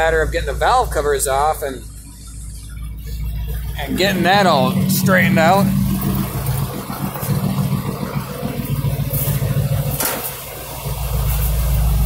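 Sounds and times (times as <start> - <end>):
car engine idling: 0.0 - 12.0
engine knocks: 0.0 - 12.0.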